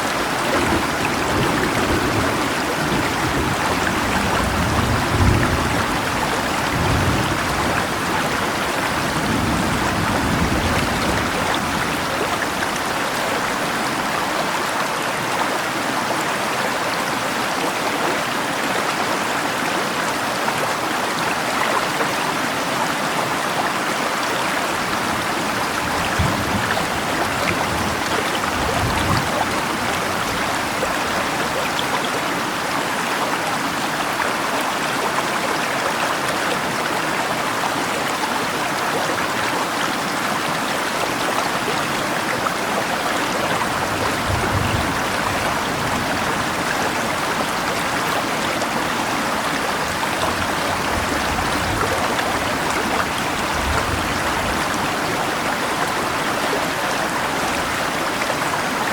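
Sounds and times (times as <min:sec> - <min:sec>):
rain falling: 0:00.0 - 0:58.9
river flowing: 0:00.0 - 0:58.9.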